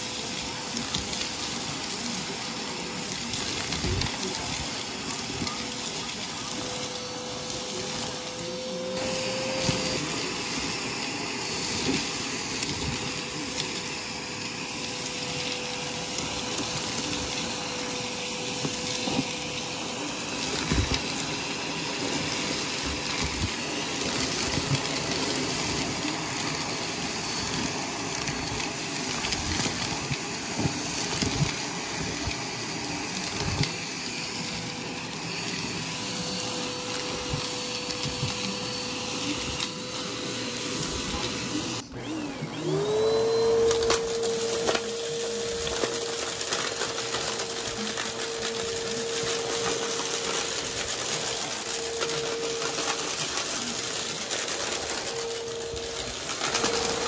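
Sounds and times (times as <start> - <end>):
vacuum cleaner whining: 0.0 - 57.0.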